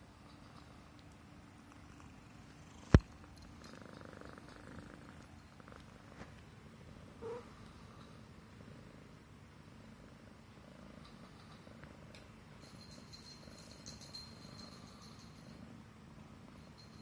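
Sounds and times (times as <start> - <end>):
cat purring: 0.1 - 17.0.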